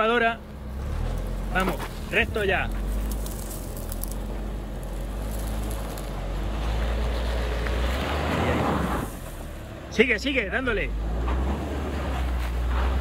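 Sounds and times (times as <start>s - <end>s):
car engine pulling uphill: 0.0s - 13.0s.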